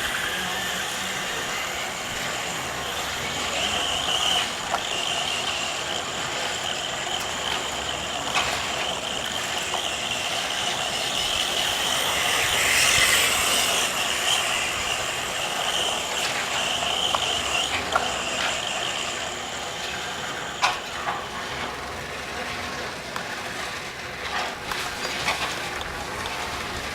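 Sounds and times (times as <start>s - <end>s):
rc car motor whine: 0.0s - 23.0s
tyre and ground noise: 0.0s - 26.9s.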